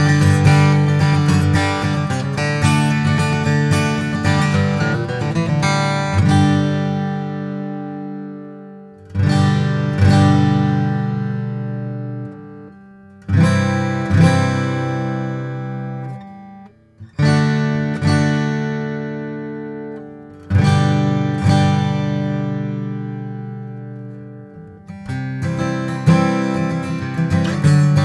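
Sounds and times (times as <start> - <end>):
acoustic guitar strummed chords: 0.0 - 28.0.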